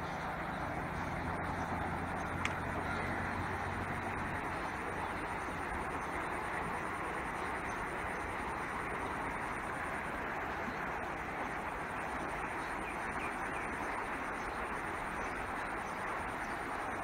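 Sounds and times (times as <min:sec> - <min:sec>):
frogs chorus: 0:00.0 - 0:17.0.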